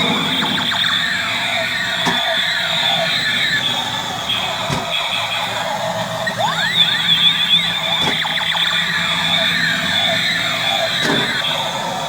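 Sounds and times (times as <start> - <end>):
toy robot electronic whine: 0.0 - 12.0.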